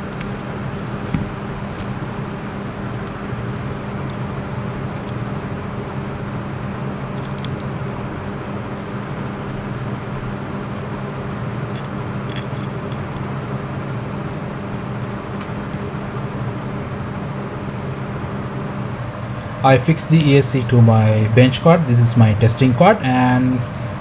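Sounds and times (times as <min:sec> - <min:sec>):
low machine hum: 0:00.0 - 0:24.0
noisy hiss: 0:00.0 - 0:24.0.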